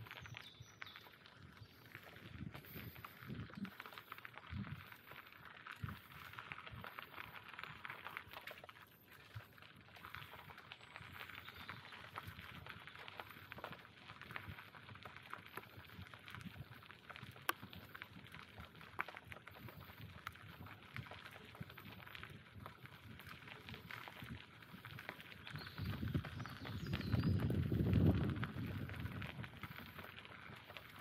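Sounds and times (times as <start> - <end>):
bicycle tyres crunching: 0.0 - 31.0
small clicks and crackles: 0.0 - 31.0.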